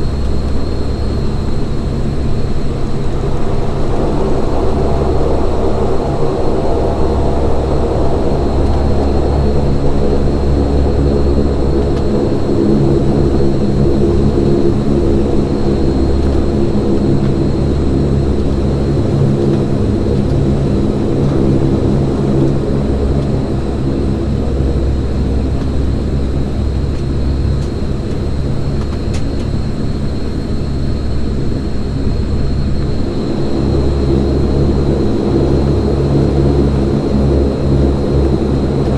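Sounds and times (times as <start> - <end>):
turboprop engine and propeller drone: 0.0 - 38.9.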